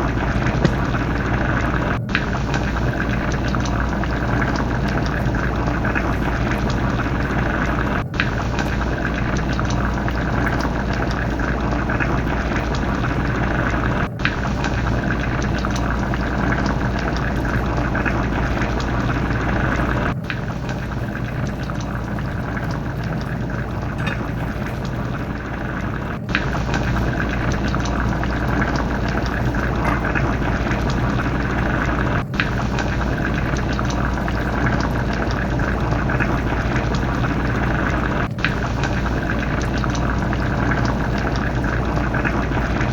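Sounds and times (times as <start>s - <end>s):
curry bubbling in a pot: 0.0s - 42.9s
steady low hum: 0.0s - 42.9s.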